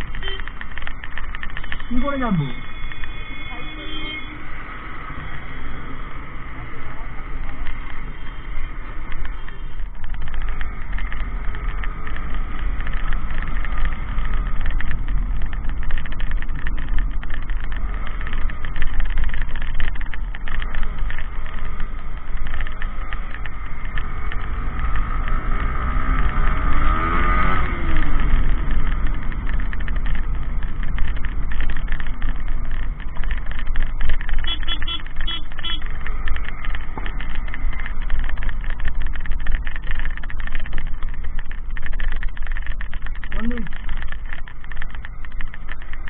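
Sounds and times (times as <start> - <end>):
motorcycle engine running: 0.0 - 46.0
wind and road rumble: 0.0 - 46.0.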